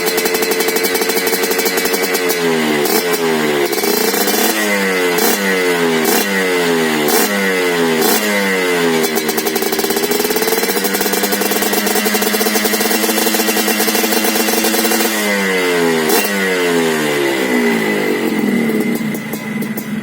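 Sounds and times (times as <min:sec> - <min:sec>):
motorcycle idling and revving: 0:00.0 - 0:20.0.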